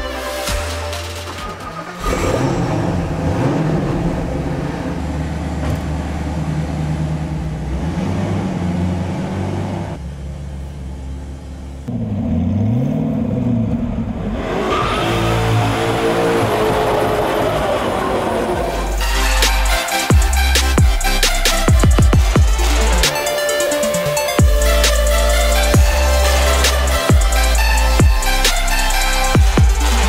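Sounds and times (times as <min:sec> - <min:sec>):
sports car engine starting: 0:00.1 - 0:30.0
car engine revving: 0:00.2 - 0:30.0
car accelerating hard: 0:01.4 - 0:10.0, 0:11.8 - 0:30.0.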